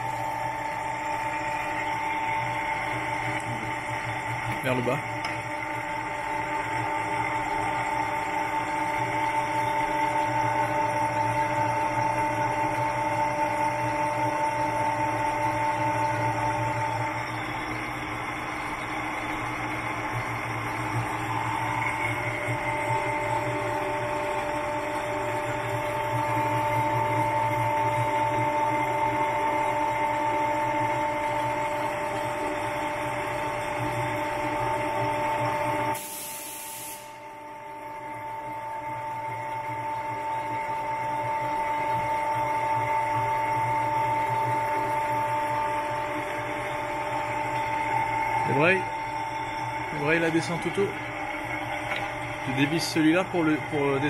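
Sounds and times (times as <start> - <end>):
motor hum: 0.0 - 36.1, 37.0 - 54.0.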